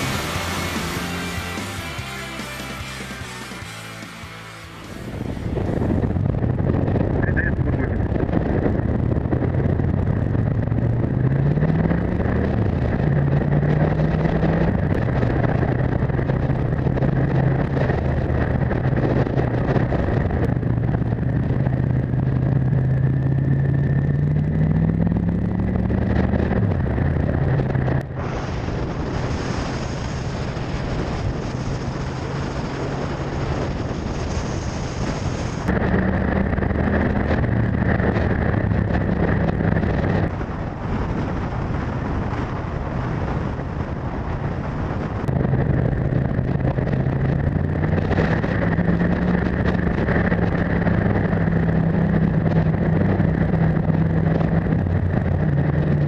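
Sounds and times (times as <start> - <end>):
motorcycle engine revving: 0.0 - 56.0
wind rushing over microphone: 0.0 - 56.0.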